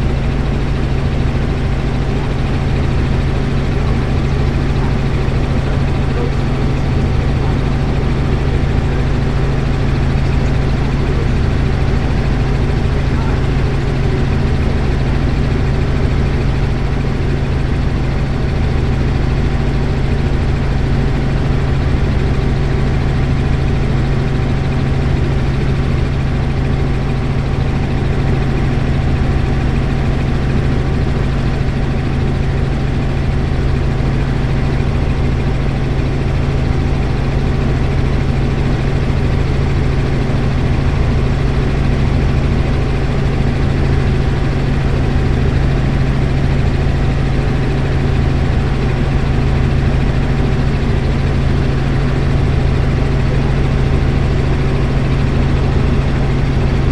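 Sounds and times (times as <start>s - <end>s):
helicopter rotor drone: 0.0s - 56.9s.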